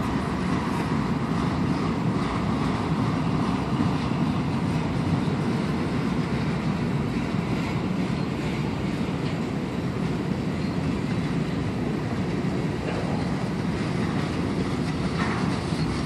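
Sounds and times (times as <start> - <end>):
freight train cars rolling past: 0.0 - 16.0.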